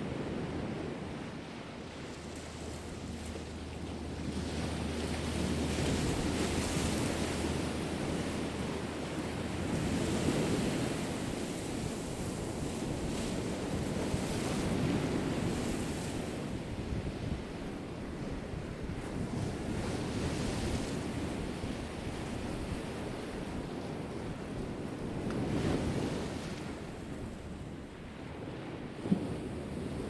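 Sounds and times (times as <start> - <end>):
sea waves washing ashore: 0.0 - 30.0
wind buffeting microphone: 0.0 - 30.0.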